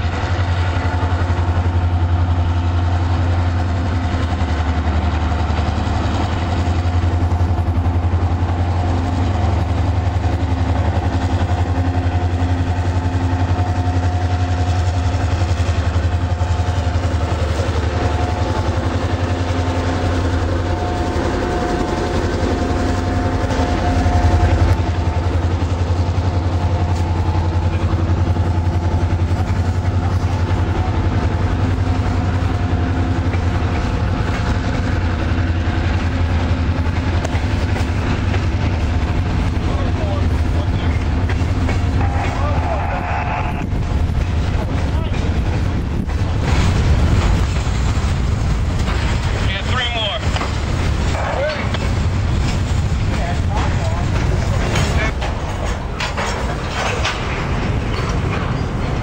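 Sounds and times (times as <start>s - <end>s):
locomotive engine drone: 0.0s - 59.0s.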